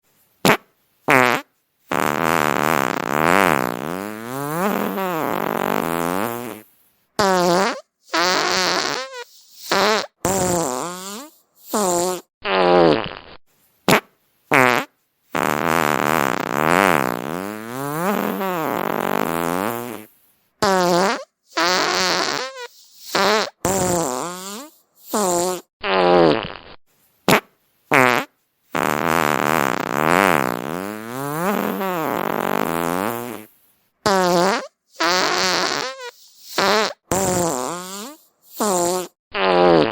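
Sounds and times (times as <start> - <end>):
fart sounds: 0.4 - 39.9.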